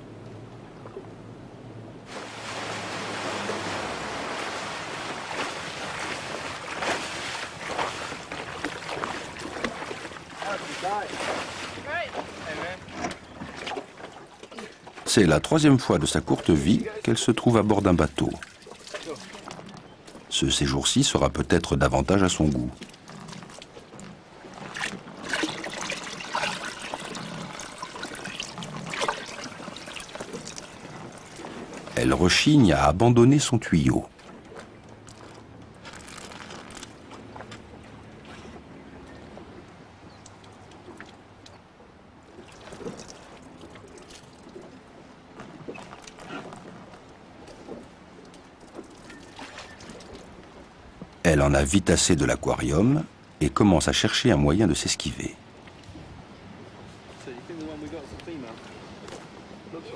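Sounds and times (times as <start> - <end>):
wind: 0.0 - 59.9
sea water splashing: 2.0 - 51.1, 55.3 - 59.9.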